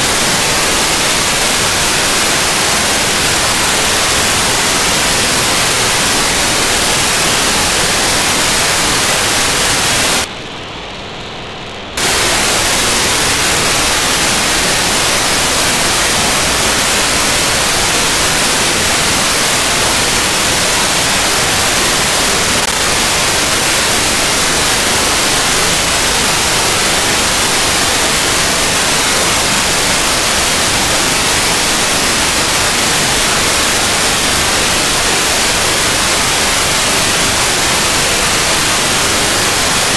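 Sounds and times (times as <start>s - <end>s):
telemetry data burst: 0.0s - 10.3s, 12.0s - 39.9s
radio receiver hiss: 0.0s - 10.6s, 11.9s - 39.9s.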